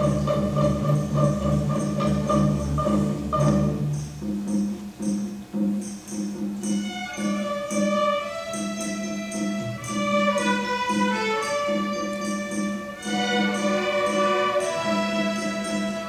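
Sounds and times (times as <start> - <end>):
string orchestra playing: 0.0 - 16.0.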